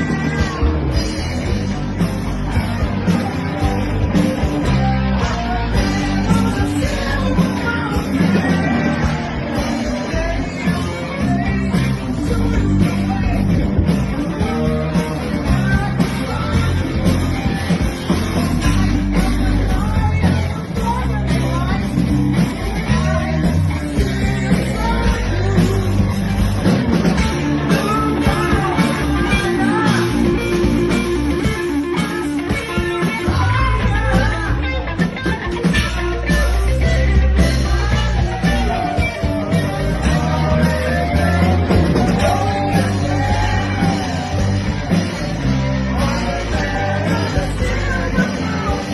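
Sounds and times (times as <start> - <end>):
person singing: 0.0 - 2.0, 2.8 - 48.9
band playing: 0.0 - 48.9
bass guitar: 0.0 - 48.9
drums: 0.0 - 48.9
electric guitar: 0.0 - 48.9.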